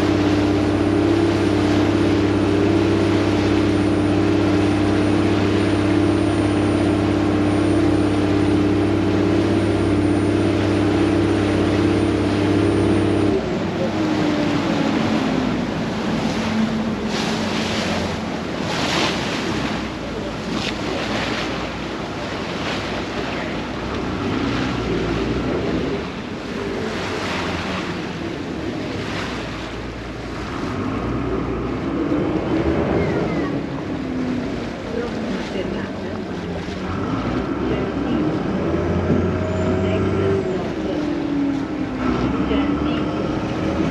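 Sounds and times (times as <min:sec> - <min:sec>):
boat engine humming: 0:00.0 - 0:43.9
water splashing along hull: 0:00.0 - 0:43.9
wind: 0:00.0 - 0:43.9.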